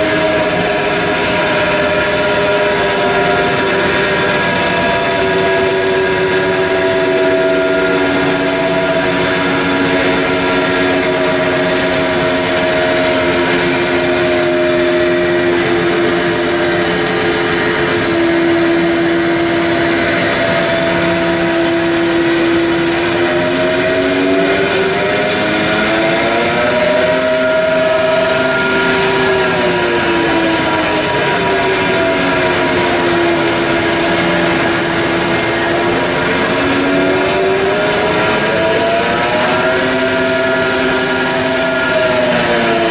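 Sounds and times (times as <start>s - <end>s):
surface grinder hum and hiss: 0.0s - 42.9s
whining tones: 0.0s - 42.9s.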